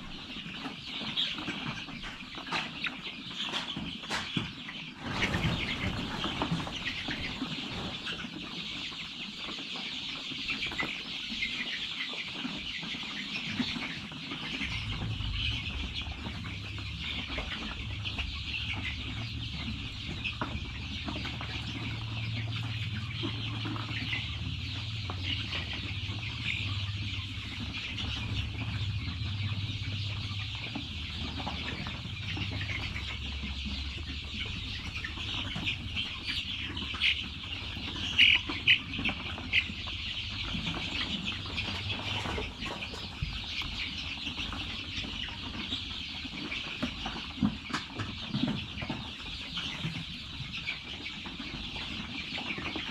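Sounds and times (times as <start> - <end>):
chicks cheeping and clucking: 0.0 - 52.9.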